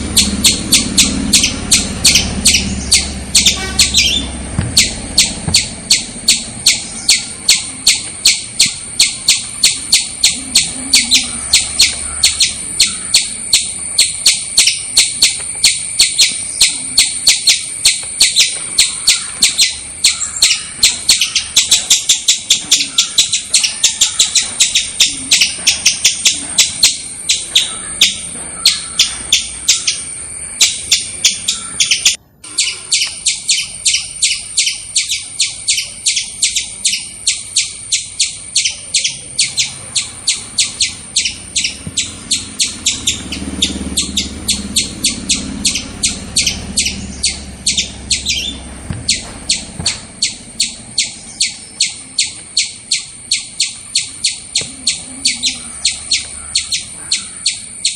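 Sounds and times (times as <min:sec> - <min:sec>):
squirrel chirping: 0:00.0 - 0:57.9.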